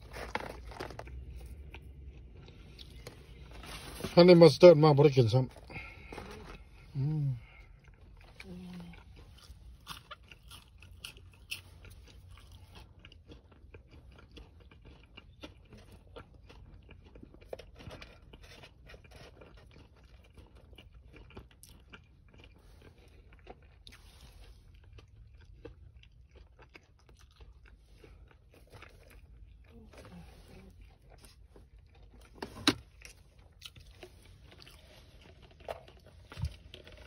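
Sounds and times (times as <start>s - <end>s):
mouth crunching fried chicken: 5.5s - 37.0s.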